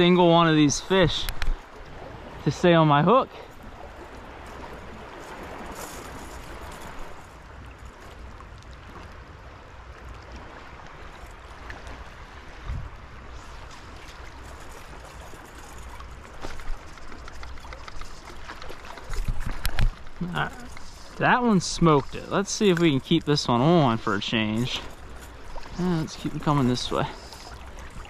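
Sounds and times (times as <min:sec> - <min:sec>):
stream water rushing: 0:00.0 - 0:07.4, 0:08.8 - 0:28.0.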